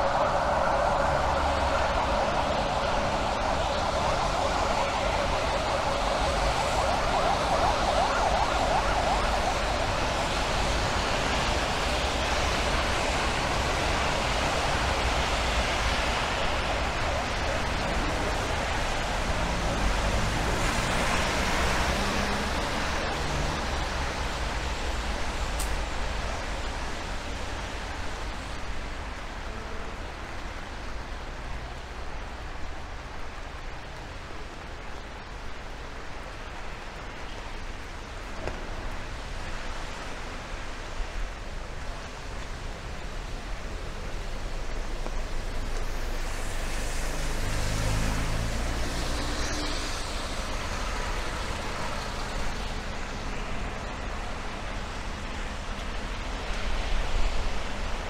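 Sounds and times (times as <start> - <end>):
tyres hissing on wet road: 0.0 - 58.0.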